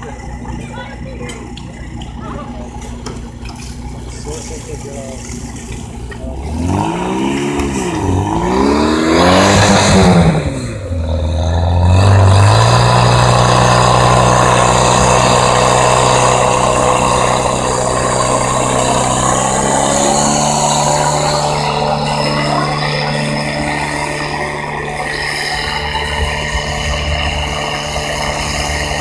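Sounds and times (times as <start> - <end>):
fire pump engine revving: 0.0 - 29.0.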